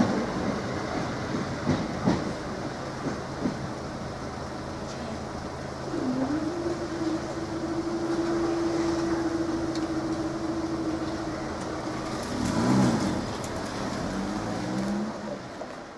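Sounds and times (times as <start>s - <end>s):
traffic idling: 0.0s - 15.9s
car pulling away: 2.8s - 15.9s.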